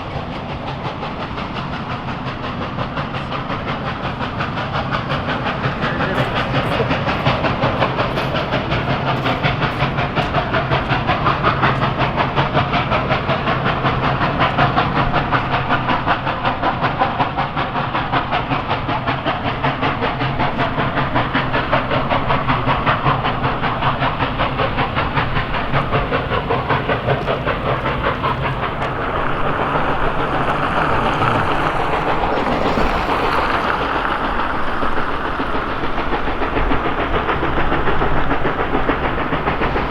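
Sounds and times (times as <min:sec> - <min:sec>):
steam train running: 0:00.0 - 0:39.9.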